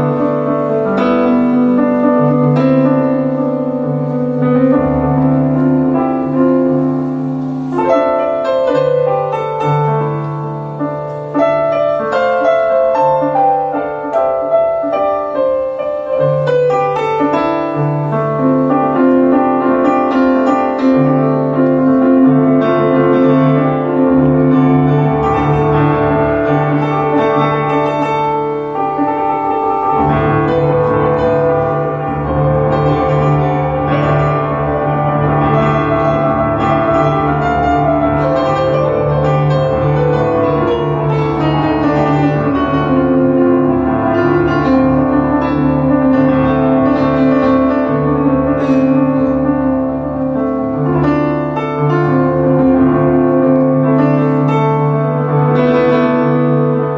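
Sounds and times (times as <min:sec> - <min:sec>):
piano-led instrumental music: 0:00.0 - 0:56.9.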